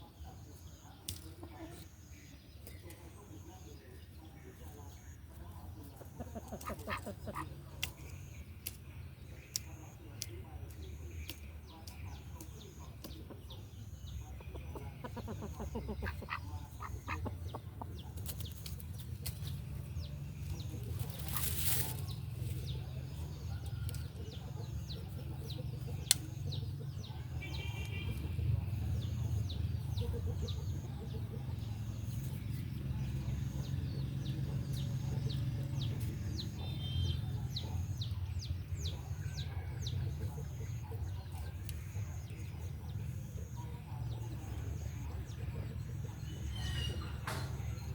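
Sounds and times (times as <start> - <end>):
chickens clucking: 4.2 - 8.8, 9.5 - 47.9.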